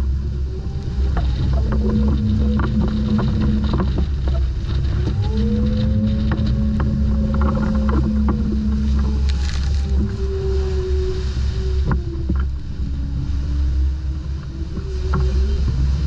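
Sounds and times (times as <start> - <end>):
steady hum: 0.0 - 16.0
waves rushing along hull: 0.0 - 16.0
wind buffeting microphone: 0.0 - 16.0.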